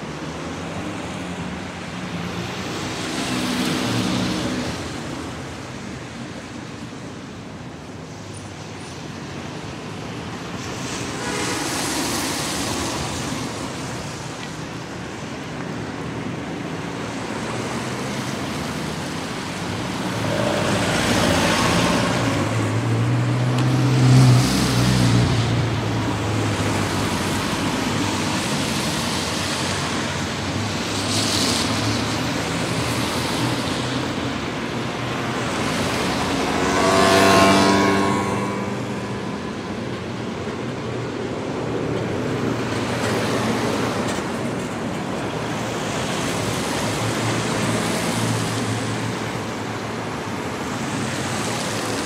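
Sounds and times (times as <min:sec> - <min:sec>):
vehicles passing on road: 0:00.0 - 0:52.0.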